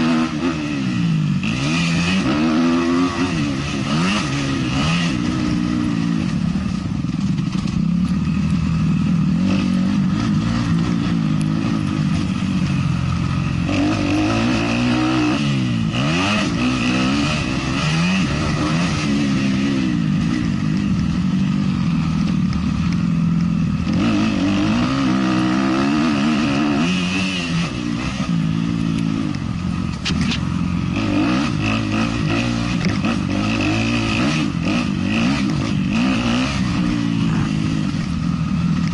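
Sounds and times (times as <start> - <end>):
motocross bike engine revving: 0.0 - 38.9
wind and track noise: 0.0 - 38.9.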